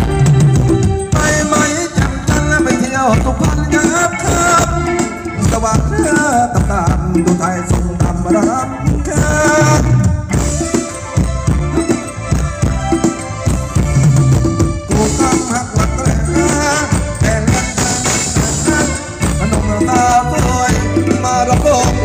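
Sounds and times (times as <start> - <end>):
live band playing dance music: 0.0 - 22.0.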